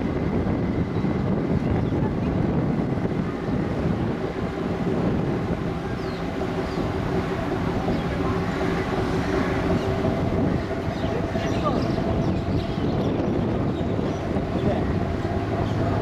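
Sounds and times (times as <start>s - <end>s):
engines running low rumble: 0.0s - 16.0s
steady engine hum: 0.0s - 16.0s
wind buffeting microphone: 0.0s - 16.0s.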